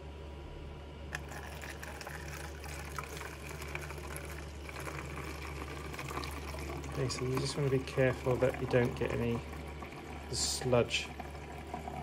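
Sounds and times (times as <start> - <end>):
liquid pouring and trickling: 1.1 - 12.0.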